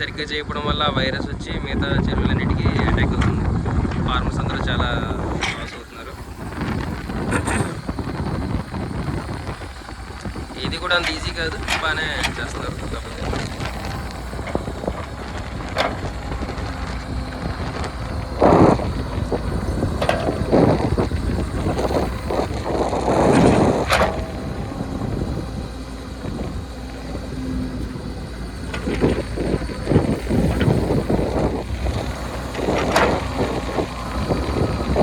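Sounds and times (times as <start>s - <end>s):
diesel engine running: 0.0s - 35.0s
wind on the microphone: 0.0s - 35.0s.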